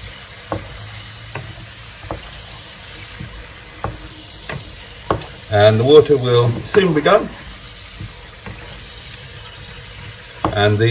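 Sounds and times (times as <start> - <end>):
potatoes sizzling in a frying pan: 0.0 - 10.9
wooden spatula scraping a pan: 0.0 - 10.9.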